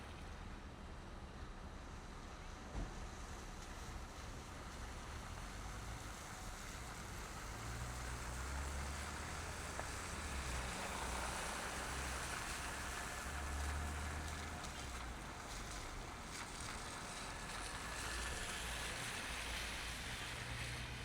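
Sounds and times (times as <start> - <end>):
car tyre and road noise: 0.0 - 21.0.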